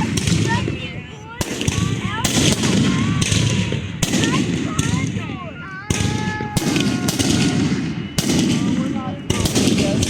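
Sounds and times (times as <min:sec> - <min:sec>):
firework bangs: 0:00.0 - 0:10.0
firework crackling rumble: 0:00.0 - 0:10.0
firework whistling: 0:00.0 - 0:10.0.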